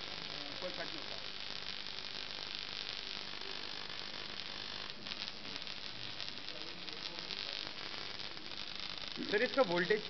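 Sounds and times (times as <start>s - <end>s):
electric arc crackling hiss: 0.0s - 10.0s.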